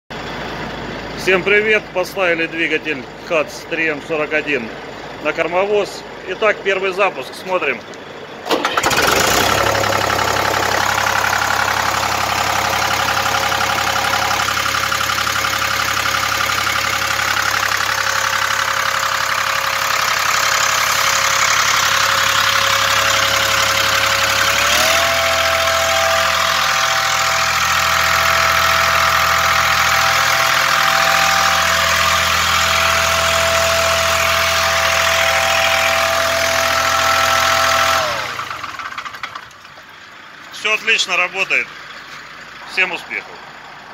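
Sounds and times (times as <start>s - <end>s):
diesel engine running: 0.1s - 43.9s.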